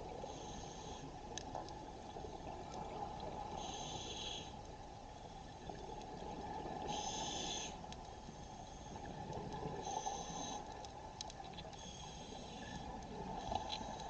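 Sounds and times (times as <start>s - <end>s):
faint clicks: 0.3s - 14.0s.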